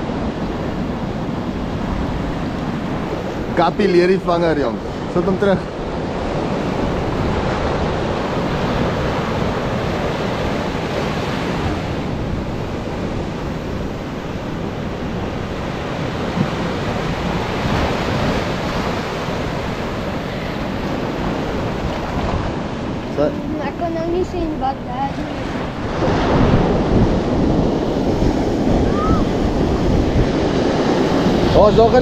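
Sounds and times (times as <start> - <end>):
ocean surf washing on shore: 0.0 - 32.0
wind noise on microphone: 0.0 - 32.0.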